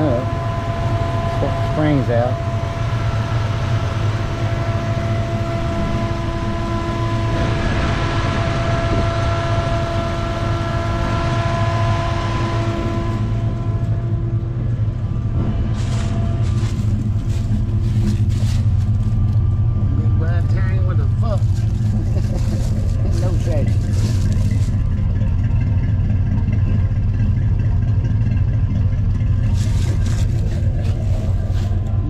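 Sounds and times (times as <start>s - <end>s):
engine idling rumble: 0.0s - 32.0s
steady whine: 0.0s - 32.0s.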